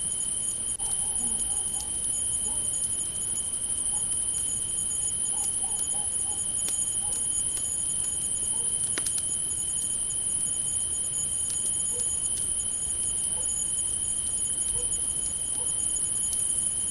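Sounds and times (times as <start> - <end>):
crickets chirping: 0.0 - 16.9
low cricket trill: 0.0 - 16.9
campfire crackling: 1.5 - 16.9.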